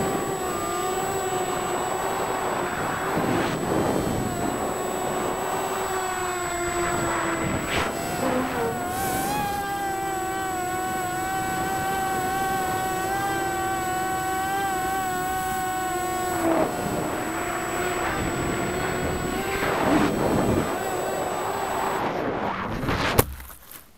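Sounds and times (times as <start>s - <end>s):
drone propellers whining: 0.0s - 23.3s
rushes of noise: 0.0s - 23.4s.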